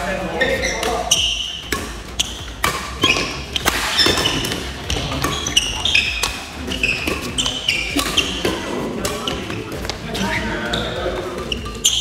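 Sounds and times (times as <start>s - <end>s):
shoes squeaking on wooden floor: 0.2s - 12.0s
racket striking shuttlecock: 0.6s - 12.0s.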